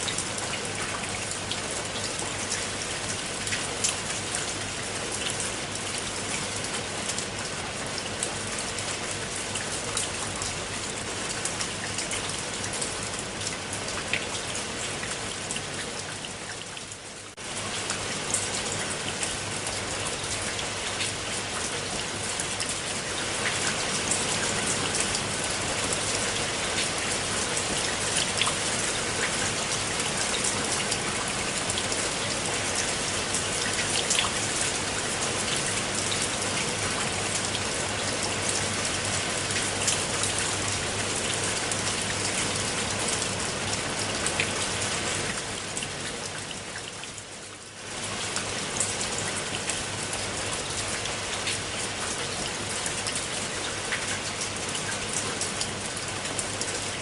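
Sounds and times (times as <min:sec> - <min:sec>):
rain falling on water: 0:00.0 - 0:57.0.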